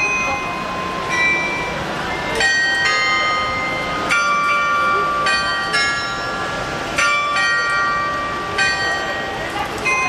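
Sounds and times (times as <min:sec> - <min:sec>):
clock bells playing a tune: 0:00.0 - 0:10.0
street noise hiss: 0:00.0 - 0:10.0.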